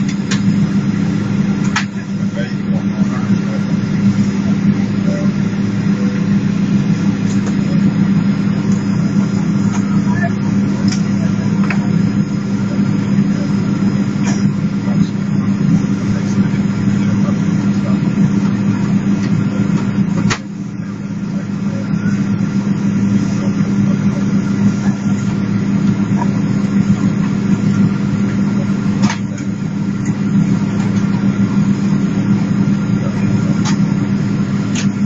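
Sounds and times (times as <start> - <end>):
aircraft cabin hum: 0.0 - 35.0.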